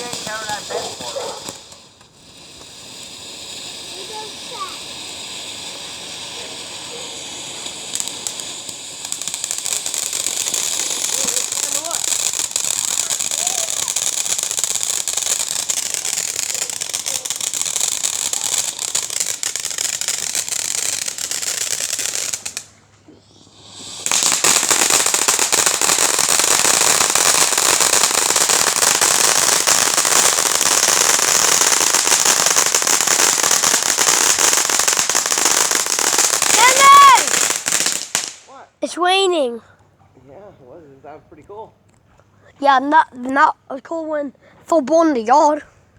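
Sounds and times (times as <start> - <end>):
fireworks crackling: 0.0 - 39.6, 42.6 - 45.6.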